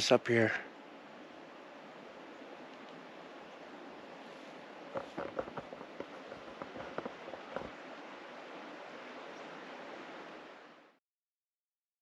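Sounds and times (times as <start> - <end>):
outdoor air hiss: 0.0 - 11.0.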